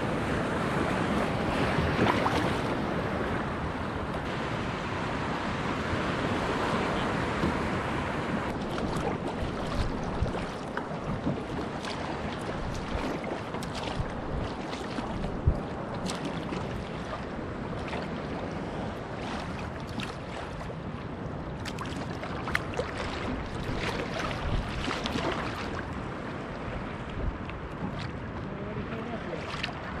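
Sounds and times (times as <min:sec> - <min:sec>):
wind on microphone: 0:00.0 - 0:30.0
water lapping against kayak hull: 0:00.1 - 0:30.0
paddle splashes and drips: 0:00.6 - 0:02.9, 0:06.4 - 0:30.0.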